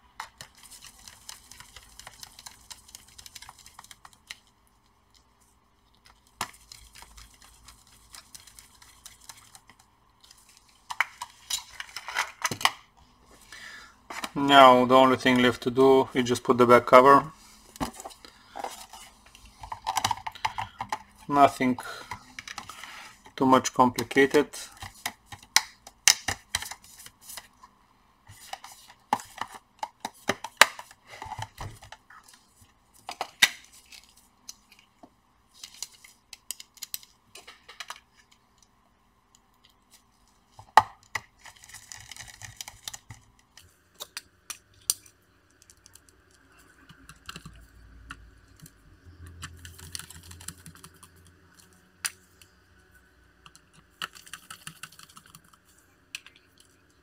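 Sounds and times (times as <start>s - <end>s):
faint steady whine: 0.0s - 57.0s.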